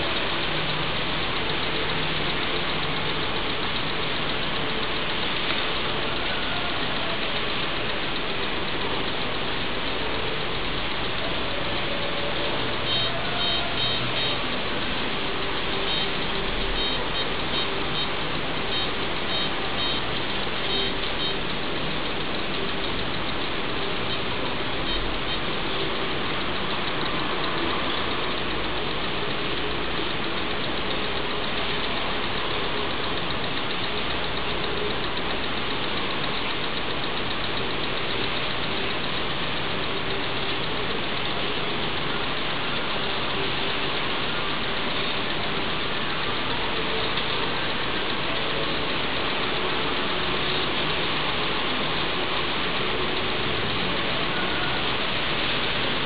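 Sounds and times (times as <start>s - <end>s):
radiation meter crackle: 0.0s - 56.0s.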